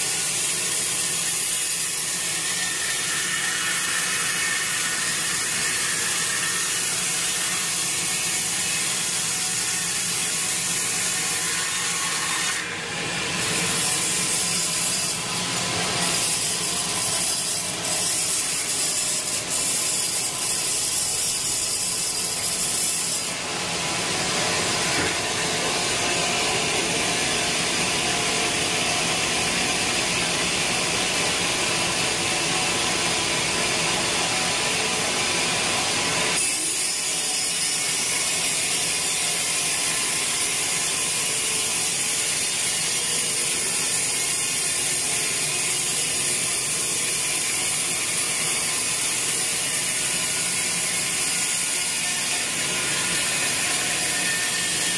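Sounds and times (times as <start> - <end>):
band saw cutting log: 0.0 - 54.9.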